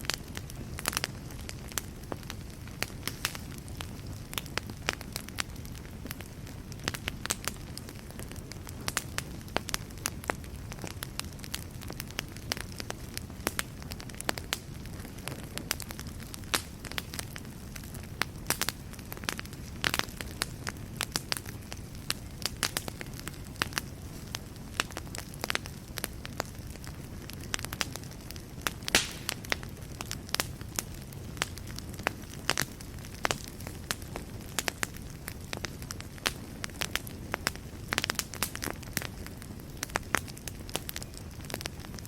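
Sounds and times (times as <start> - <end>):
fire crackling and popping: 0.0 - 42.0
low rumble of flames: 0.0 - 42.0.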